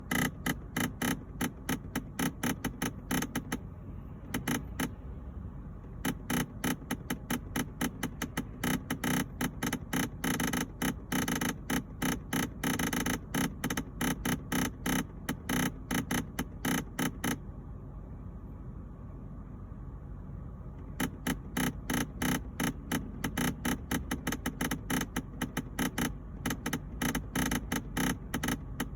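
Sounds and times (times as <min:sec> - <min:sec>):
rapid clicking from air conditioning: 0:00.0 - 0:28.9.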